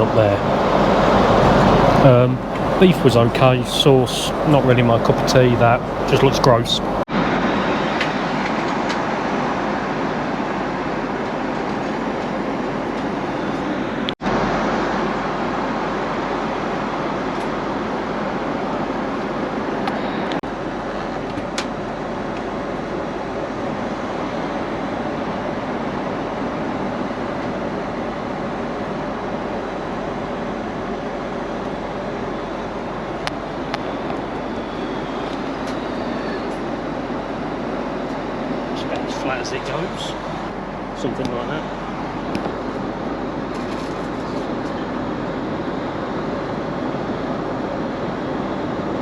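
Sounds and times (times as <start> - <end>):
airplane cabin noise: 0.0 - 49.0.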